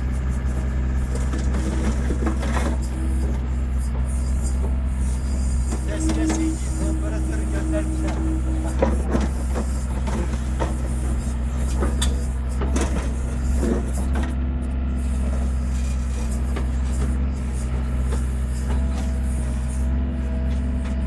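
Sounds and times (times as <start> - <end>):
excavator diesel engine running: 0.0 - 21.0
thin whine: 0.0 - 21.0.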